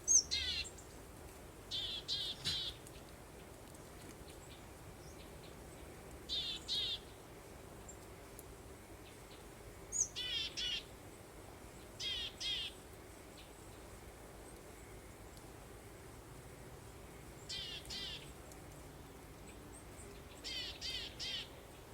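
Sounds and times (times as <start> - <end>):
songbird singing: 0.0 - 1.0, 1.7 - 8.1, 9.0 - 15.5, 16.8 - 21.9
soft breeze: 0.0 - 21.9.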